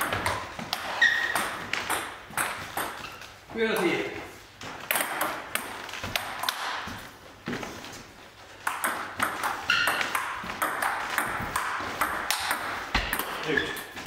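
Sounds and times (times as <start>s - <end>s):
table tennis ball hits: 0.0s - 4.1s, 4.8s - 7.1s, 8.6s - 14.0s.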